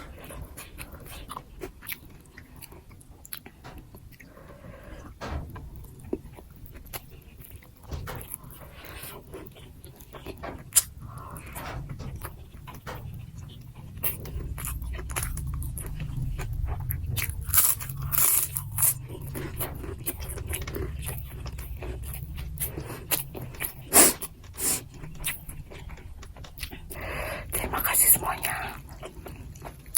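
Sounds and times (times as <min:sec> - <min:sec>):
chewing and crunching food: 0:00.0 - 0:29.9.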